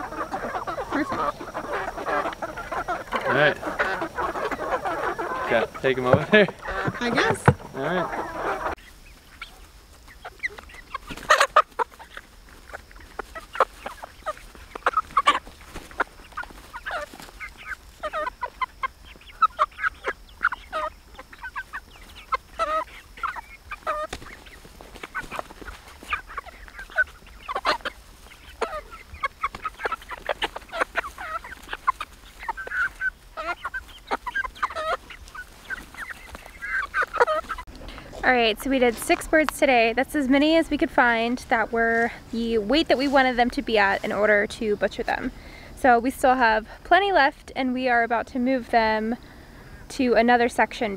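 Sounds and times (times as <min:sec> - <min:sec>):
hens clucking and peeping: 0:00.0 - 0:50.9.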